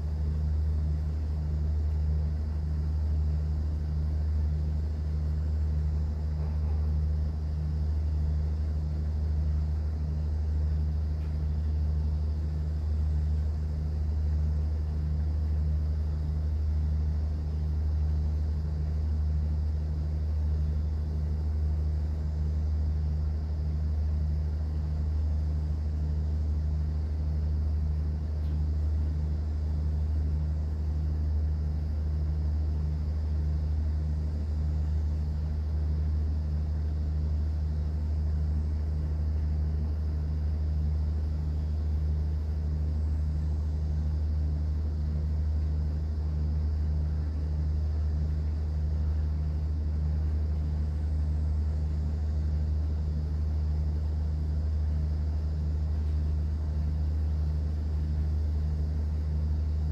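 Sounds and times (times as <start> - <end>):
boat engine humming: 0.0 - 59.8.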